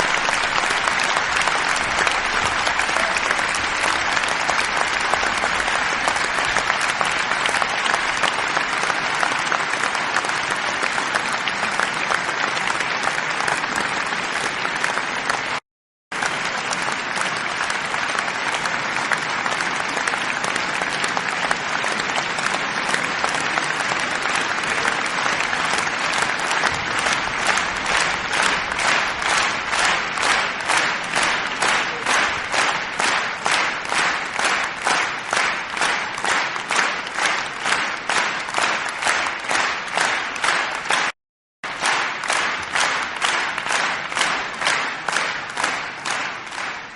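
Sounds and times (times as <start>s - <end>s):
audience applauding: 0.0s - 46.9s
rhythmic clapping in unison: 0.0s - 46.9s.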